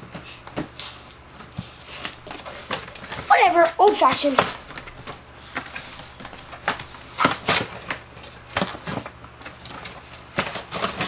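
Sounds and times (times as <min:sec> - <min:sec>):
packaging being handled and opened: 0:00.6 - 0:11.0.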